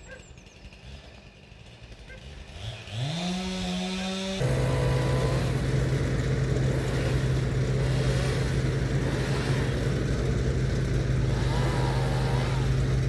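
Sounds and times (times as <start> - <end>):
engine humming with rough rattle: 0.0 - 3.7, 4.3 - 13.0.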